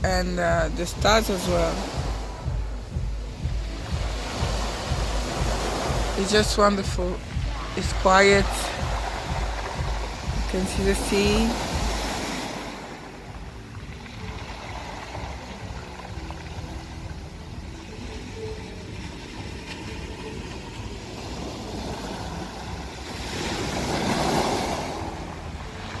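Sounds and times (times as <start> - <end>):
sea waves washing on beach: 0.0 - 26.0
wind rumbling on microphone: 0.0 - 26.0.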